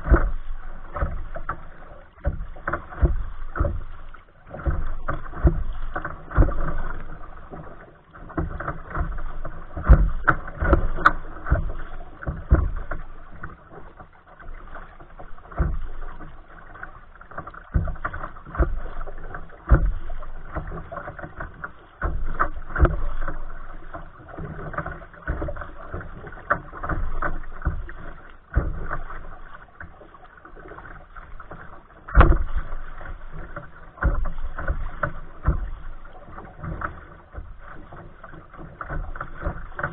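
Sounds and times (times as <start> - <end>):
water slapping against kayak: 0.0 - 39.9.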